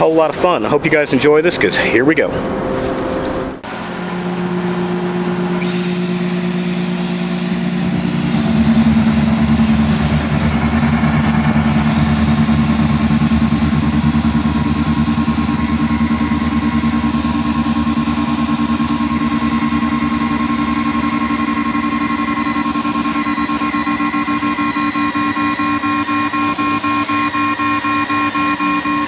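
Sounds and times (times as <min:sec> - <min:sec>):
low drilling drone: 0:00.0 - 0:29.0
magnetic drill motor whining: 0:05.1 - 0:29.0.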